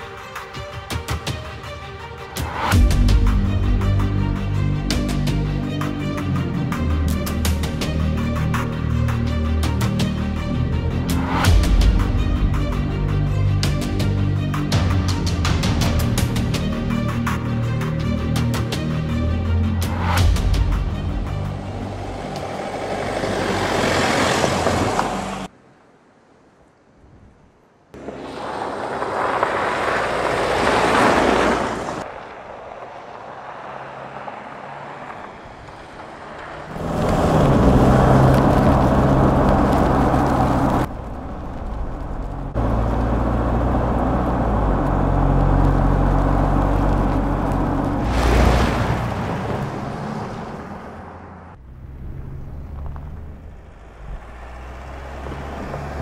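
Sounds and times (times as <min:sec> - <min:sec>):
diesel engine low drone: 0:00.0 - 0:25.6, 0:28.0 - 0:56.0
suv engine driving off road: 0:00.0 - 0:25.8, 0:28.0 - 0:56.0.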